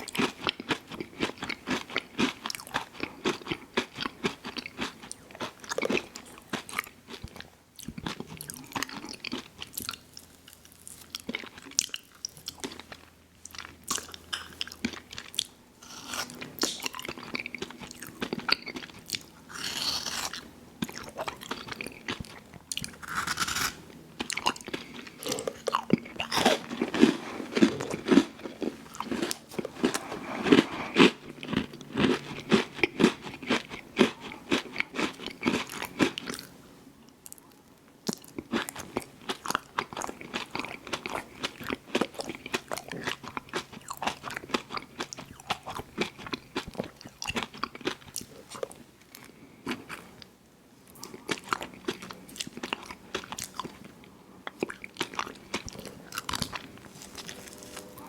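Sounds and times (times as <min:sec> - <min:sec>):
crunchy chewing: 0:00.0 - 0:36.6, 0:37.2 - 0:50.3, 0:50.9 - 0:58.0.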